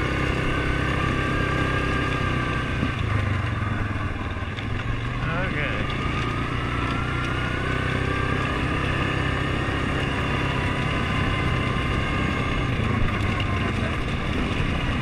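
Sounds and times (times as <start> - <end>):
atv engine running: 0.0 - 15.0
thin engine whine: 0.0 - 15.0.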